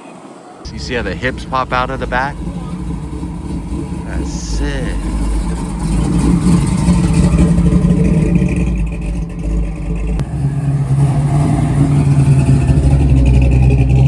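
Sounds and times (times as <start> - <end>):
car engine rumbling: 0.7 - 14.0.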